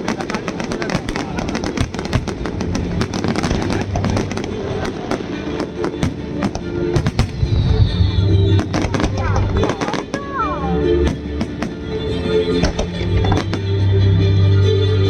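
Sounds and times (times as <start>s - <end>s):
fireworks bangs and crackles: 0.0s - 13.9s
loud music: 0.6s - 15.0s.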